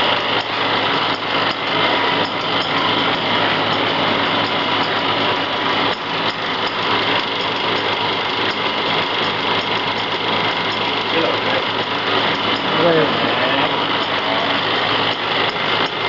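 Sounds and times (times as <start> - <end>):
machine clattering: 0.0 - 16.0
motor hum: 0.0 - 16.0.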